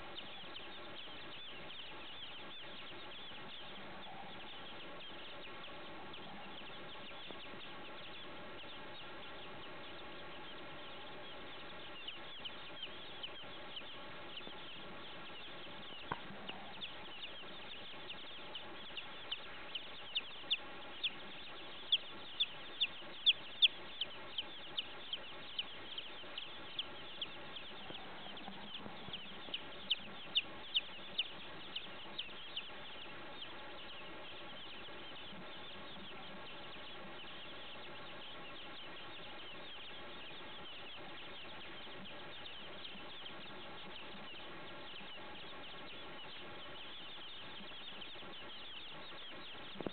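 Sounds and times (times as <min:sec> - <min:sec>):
baby chicks peeping: 0:00.0 - 0:49.9.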